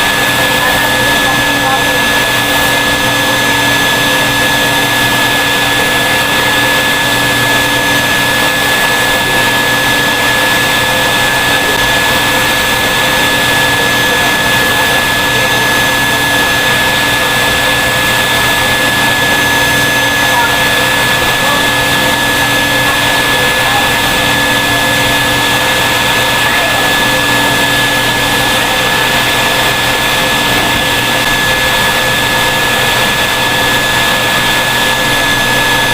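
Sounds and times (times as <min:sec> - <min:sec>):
vacuum cleaner motor running: 0:00.0 - 0:35.9.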